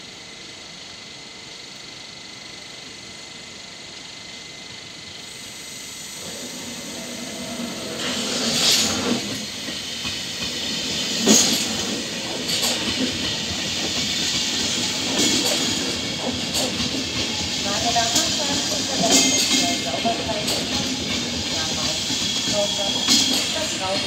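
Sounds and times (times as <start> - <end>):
train running noise: 4.0 - 24.0.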